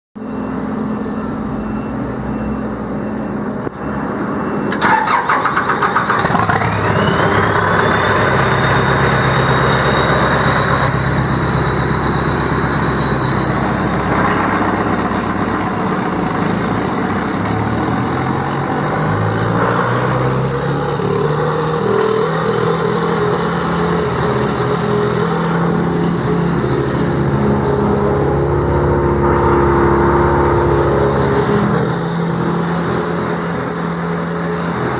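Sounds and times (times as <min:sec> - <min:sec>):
whine rising in pitch: 0:00.2 - 0:04.5, 0:06.5 - 0:34.9
wood chipper engine running: 0:04.7 - 0:34.9.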